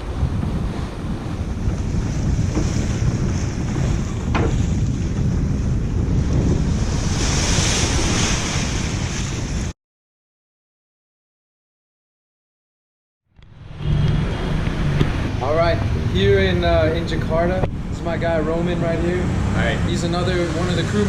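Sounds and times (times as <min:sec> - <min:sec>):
rushing water: 0:00.0 - 0:09.7, 0:13.4 - 0:21.0
wind buffeting microphone: 0:00.0 - 0:09.7, 0:13.4 - 0:21.0.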